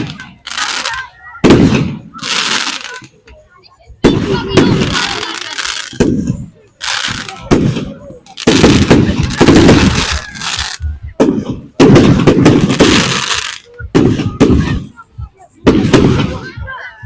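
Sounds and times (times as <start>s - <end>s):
fireworks bangs and crackle: 0.0s - 3.4s, 4.0s - 16.8s.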